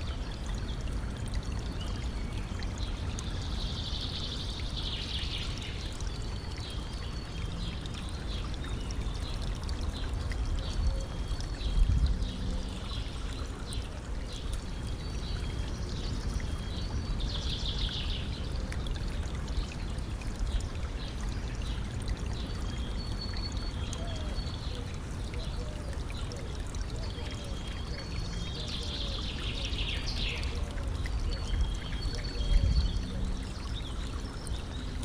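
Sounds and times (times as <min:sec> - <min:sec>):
stream water trickling: 0:00.0 - 0:35.0.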